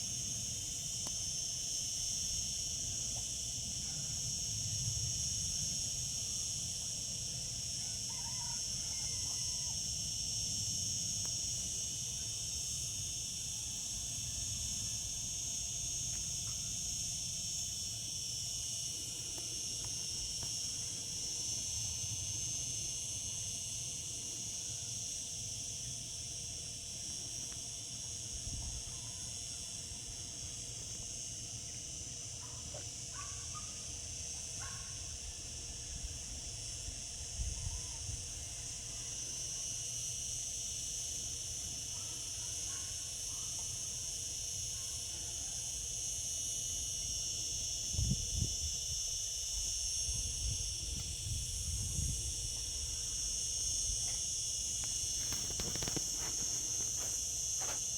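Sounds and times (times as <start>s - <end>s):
cicadas singing: 0.0s - 57.9s.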